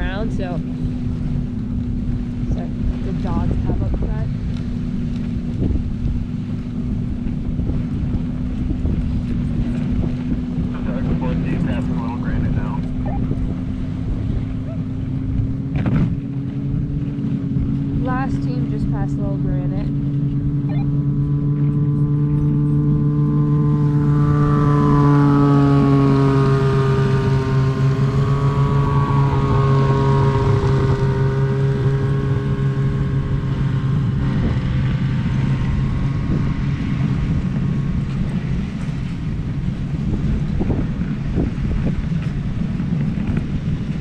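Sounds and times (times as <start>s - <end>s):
engine droning: 0.0s - 44.0s
wind rumble on microphone: 0.0s - 44.0s.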